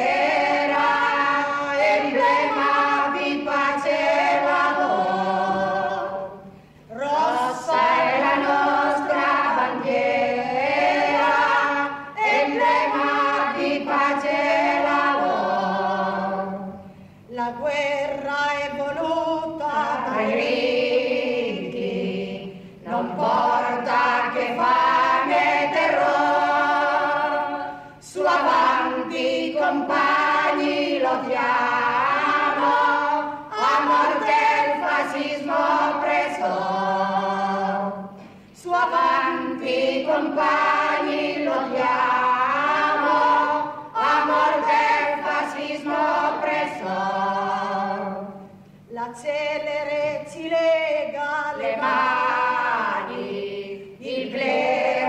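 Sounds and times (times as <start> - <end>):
choir singing: 0.0 - 48.6, 49.2 - 55.0.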